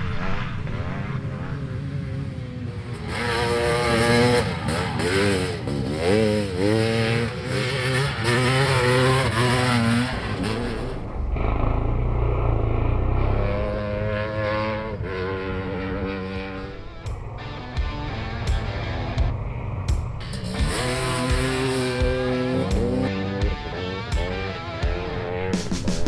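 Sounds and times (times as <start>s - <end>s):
dirt bike engine revving: 0.6s - 26.0s.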